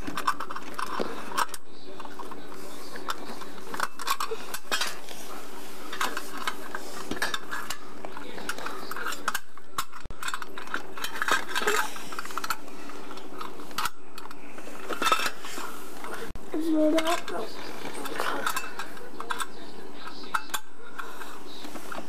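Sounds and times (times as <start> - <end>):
metal plumbing parts clinking: 0.0 - 15.6, 16.8 - 22.0.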